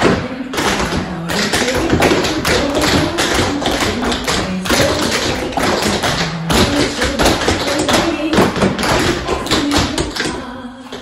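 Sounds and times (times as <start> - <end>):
tap shoes clicking on floor: 0.0 - 11.0.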